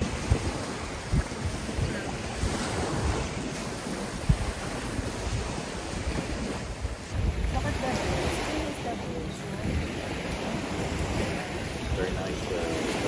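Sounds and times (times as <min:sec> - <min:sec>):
waves washing against rocky shore: 0:00.0 - 0:13.0
wind buffeting microphone: 0:00.0 - 0:13.0.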